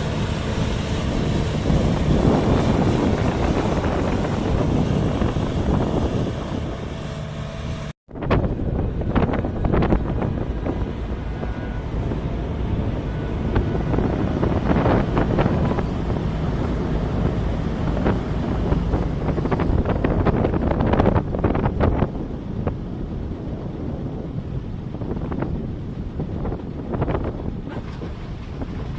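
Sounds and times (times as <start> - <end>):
farm machinery engine running: 0.0 - 28.9
wind noise on microphone: 0.0 - 28.9.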